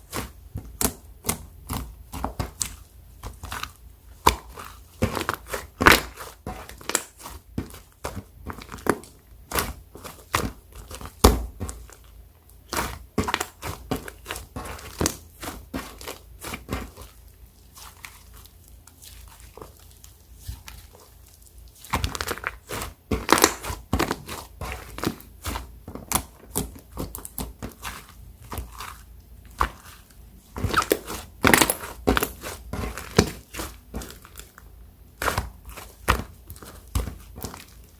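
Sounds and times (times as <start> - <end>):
slime crackling and popping: 0.1 - 37.9.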